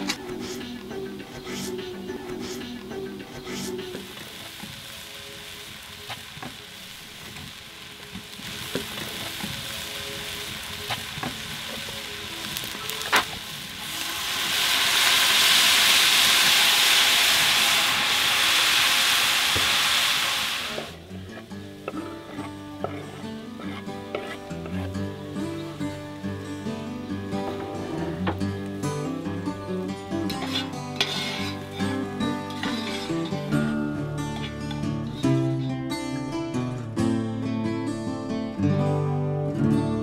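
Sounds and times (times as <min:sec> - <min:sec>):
meat and onions sizzling: 0:00.0 - 0:35.6.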